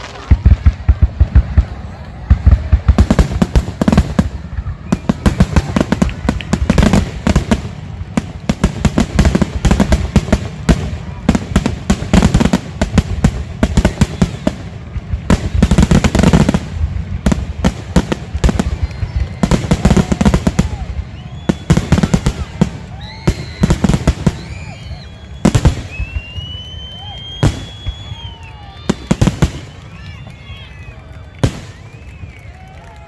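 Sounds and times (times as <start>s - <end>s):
fireworks bangs and crackles: 0.0s - 33.0s
high whistling firework: 0.0s - 33.0s.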